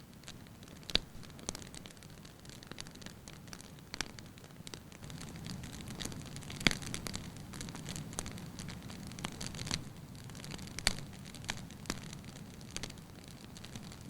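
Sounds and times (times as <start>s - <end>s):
burning logs crackling: 0.0s - 14.0s
low hiss of fire: 0.0s - 14.0s.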